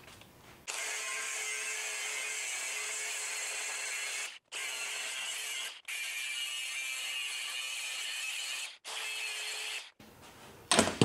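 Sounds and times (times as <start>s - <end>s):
angle grinder cutting steel: 0.7s - 10.0s.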